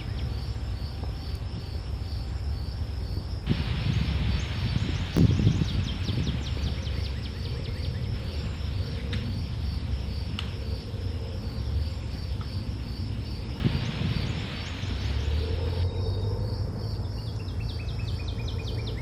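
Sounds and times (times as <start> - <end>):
insects chirping: 0.0 - 19.0
low rumble: 0.0 - 19.0.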